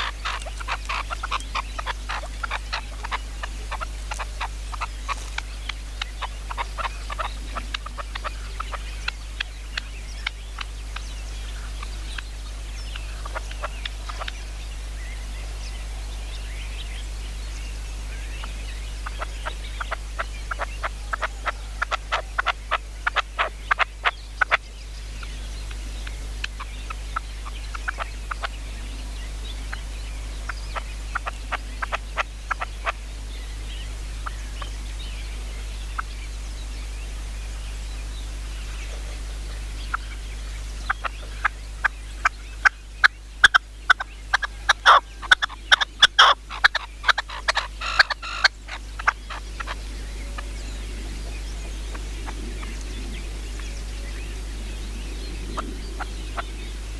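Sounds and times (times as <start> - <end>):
partridges clucking calls: 0.0 - 17.4, 18.0 - 36.4, 38.4 - 56.9.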